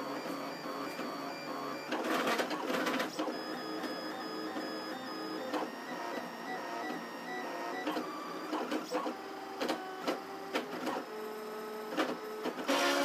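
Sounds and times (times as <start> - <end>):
three d printer motors whining: 0.0 - 13.0.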